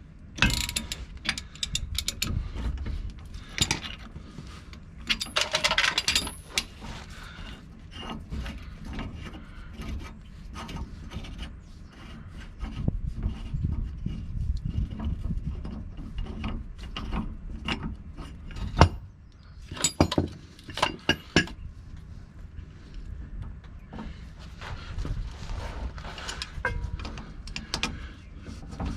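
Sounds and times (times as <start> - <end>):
metal-on-metal scraping: 0.4 - 21.7, 22.7 - 28.9.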